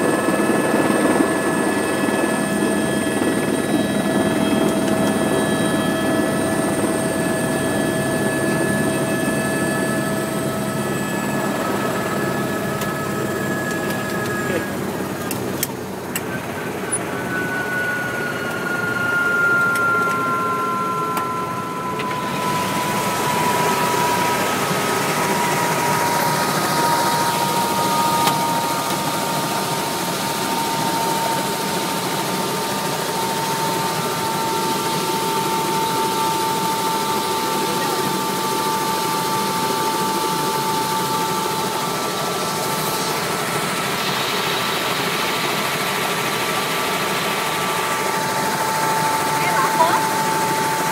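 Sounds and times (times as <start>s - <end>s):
helicopter engine and rotor: 0.0s - 50.9s.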